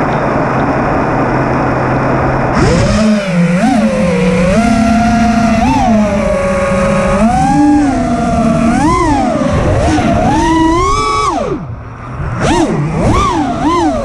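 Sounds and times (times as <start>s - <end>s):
drone motors whining: 0.0s - 14.0s
steady low hum: 0.0s - 14.0s.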